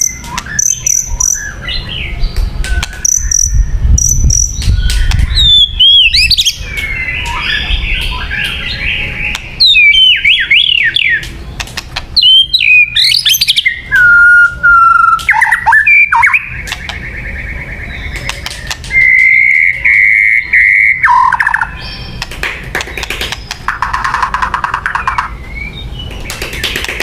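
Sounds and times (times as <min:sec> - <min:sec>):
sharp bird clicking notes: 0:00.0 - 0:01.5, 0:02.3 - 0:08.7, 0:09.3 - 0:17.0, 0:18.1 - 0:19.8, 0:21.0 - 0:25.4, 0:26.0 - 0:27.0
bird whistled song: 0:00.0 - 0:11.4, 0:12.2 - 0:26.8
harsh buzzy bird trill: 0:00.0 - 0:27.0.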